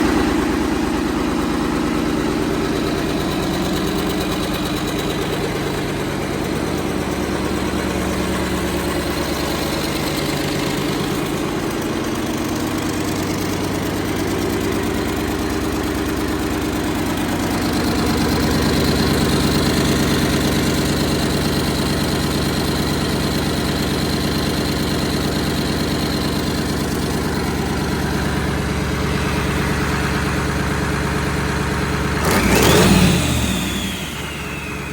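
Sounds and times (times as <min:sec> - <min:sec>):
diesel engine running at low speed: 0:00.0 - 0:34.9.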